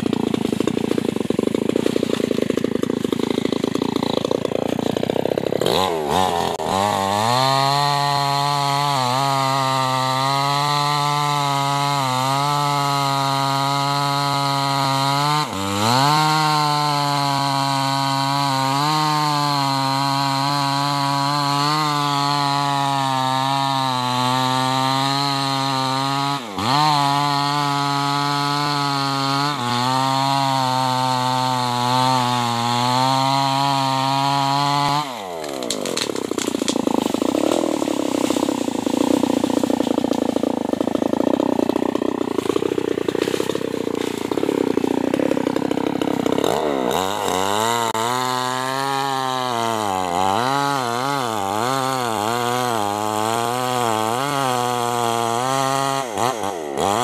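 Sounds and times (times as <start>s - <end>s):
chainsaw cutting into wood: 0.0s - 57.0s.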